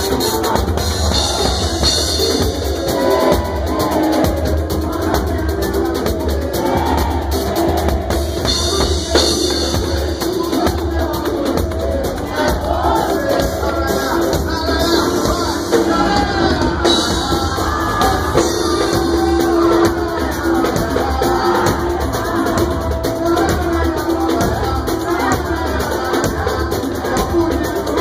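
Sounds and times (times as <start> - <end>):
hand drums: 0.0 - 28.0
live samba band: 0.0 - 28.0
person singing: 0.0 - 28.0.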